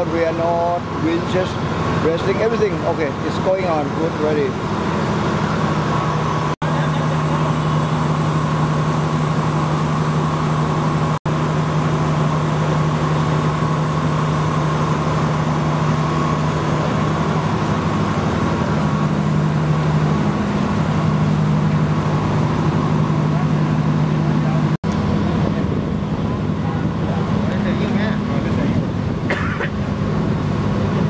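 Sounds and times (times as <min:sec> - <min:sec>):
heavy construction machinery drone: 0:00.0 - 0:31.0.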